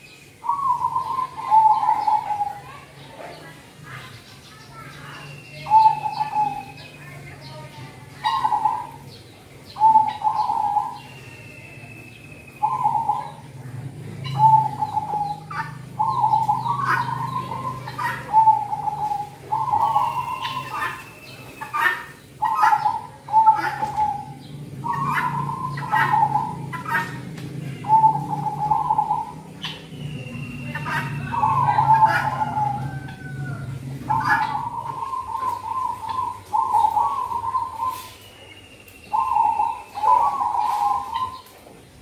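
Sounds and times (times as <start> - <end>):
dove cooing: 0.4 - 3.6, 5.5 - 9.1, 9.7 - 11.2, 12.2 - 38.3, 39.1 - 42.0.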